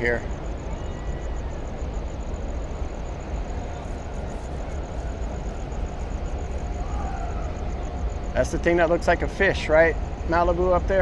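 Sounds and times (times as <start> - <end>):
outdoor noise hiss: 0.0 - 11.0.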